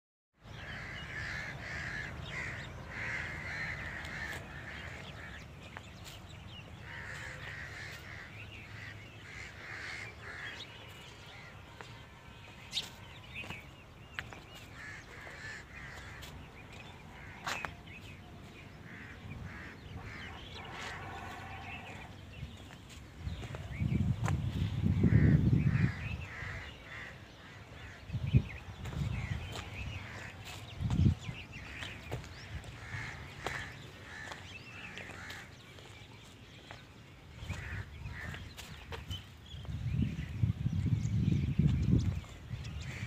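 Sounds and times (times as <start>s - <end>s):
birds calling: 0.4s - 43.0s.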